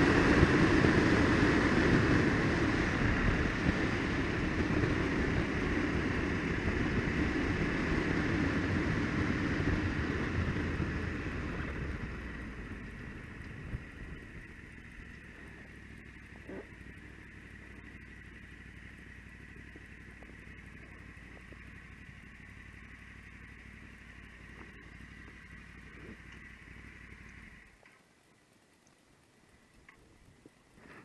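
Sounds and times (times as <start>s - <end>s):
motorcycle engine: 0.0s - 27.8s.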